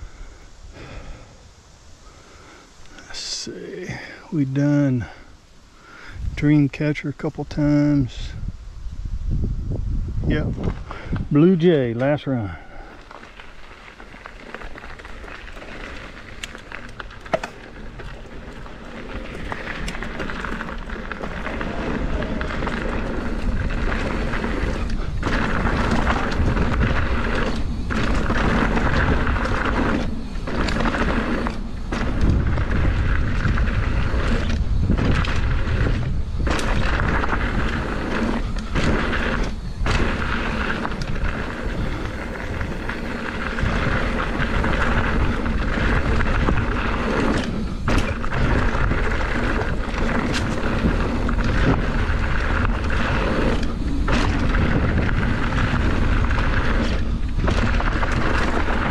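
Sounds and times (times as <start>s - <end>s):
bike tyres rolling on dirt: 0.0s - 58.9s
wind buffeting microphone: 6.1s - 58.9s.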